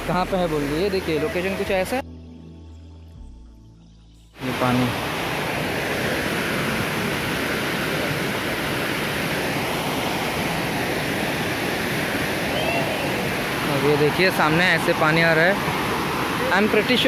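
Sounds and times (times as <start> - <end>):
stream water rushing over rocks: 0.0 - 2.0, 4.4 - 17.0.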